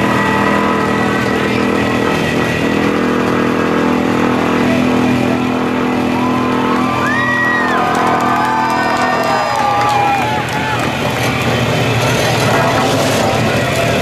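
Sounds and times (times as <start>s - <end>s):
road roller engine running: 0.0s - 14.0s.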